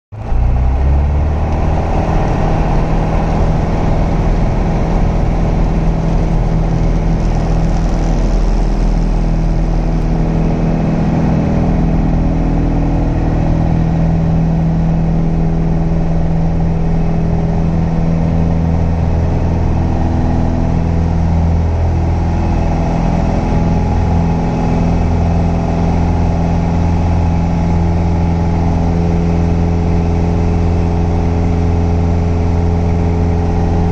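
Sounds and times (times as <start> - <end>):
light aircraft engine and propeller: 0.2 - 33.9.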